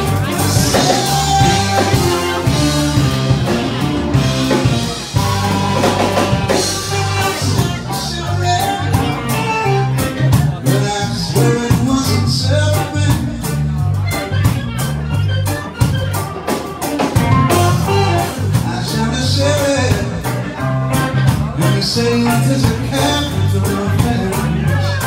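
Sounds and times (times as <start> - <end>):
bass line: 0.0 - 25.0
drum kit beat: 0.0 - 25.0
electric guitars: 0.0 - 25.0.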